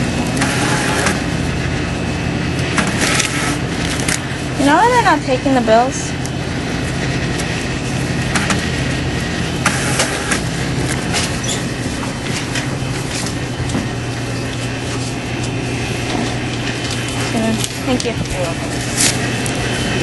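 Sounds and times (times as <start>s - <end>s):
low machine hum with tones: 0.0s - 20.0s.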